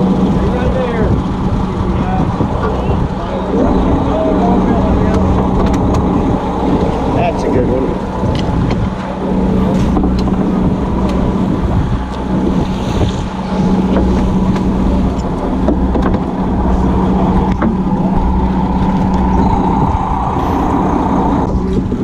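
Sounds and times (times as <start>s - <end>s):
boat engine humming: 0.0s - 22.0s
wind buffeting microphone: 0.0s - 22.0s.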